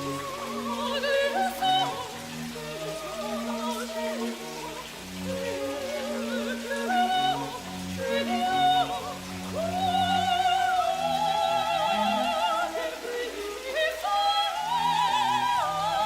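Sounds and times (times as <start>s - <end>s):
operatic singing with vibrato: 0.0s - 16.0s.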